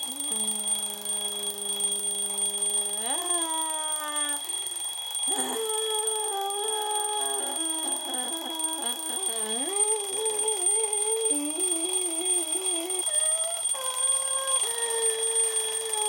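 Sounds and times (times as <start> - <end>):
electronic alarm clock tune: 0.0 - 16.0
steady high whine: 0.0 - 16.0.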